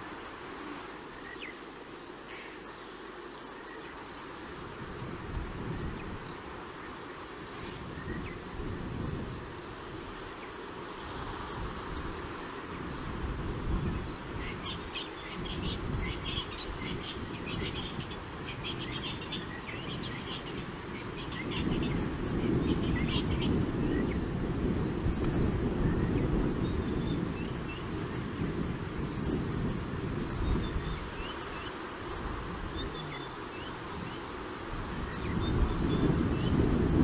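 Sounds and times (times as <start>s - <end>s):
high insect calls: 0.0s - 37.0s.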